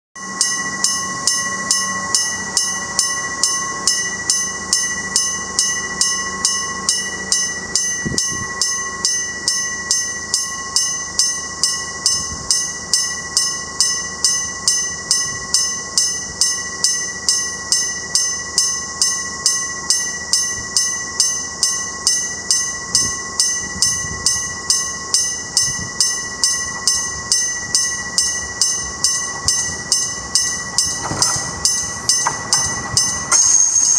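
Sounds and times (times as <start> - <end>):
level crossing warning bell: 0.2 - 33.9.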